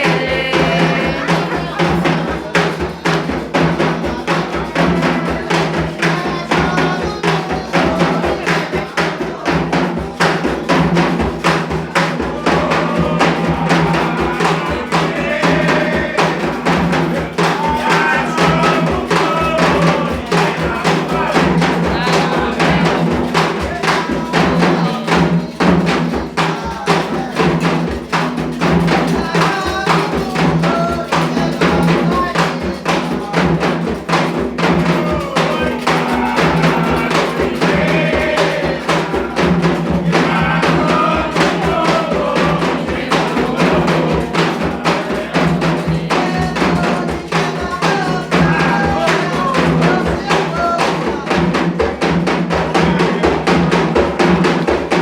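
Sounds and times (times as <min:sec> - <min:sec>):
hand drums beating: 0:00.0 - 0:55.0
voices singing a chant: 0:00.0 - 0:55.0.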